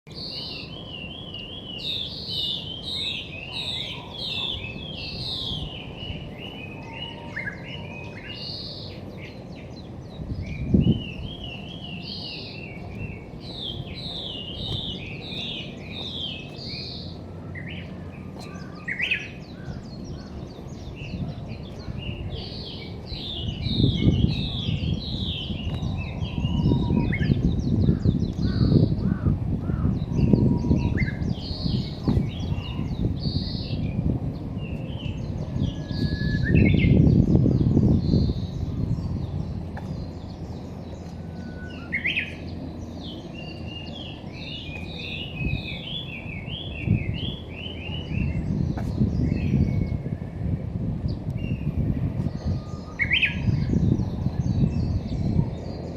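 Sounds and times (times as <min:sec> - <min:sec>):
songbird chirping: 0:00.1 - 0:28.9, 0:30.1 - 0:50.1
low microphone rumble: 0:00.2 - 0:55.9.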